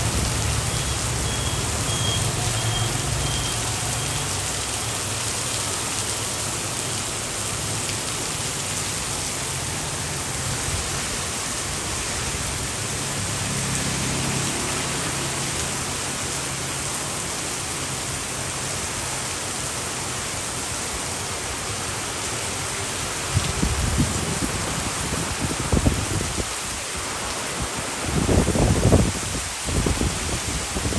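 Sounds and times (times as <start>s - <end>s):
heavy rain on street: 0.0s - 30.9s.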